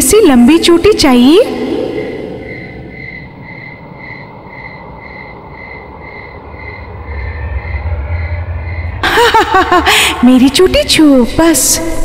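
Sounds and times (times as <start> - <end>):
crickets chirping: 0.0 - 12.0
low rumble: 0.0 - 12.0.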